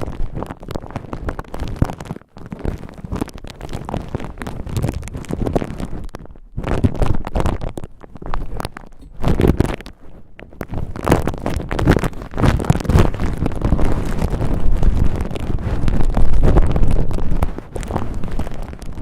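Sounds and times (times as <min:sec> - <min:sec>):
cotton ball rustling on microphone: 0:00.0 - 0:19.0
mic handling rumble: 0:03.4 - 0:19.0.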